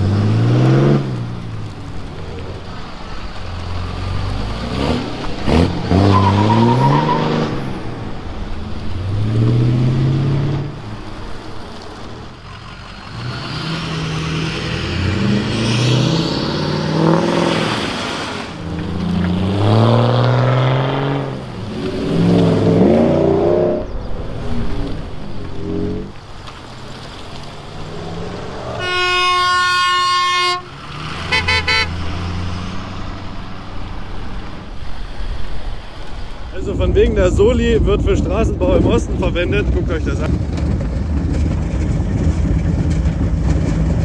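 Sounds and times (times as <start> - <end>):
truck engines accelerating: 0.0 - 44.0.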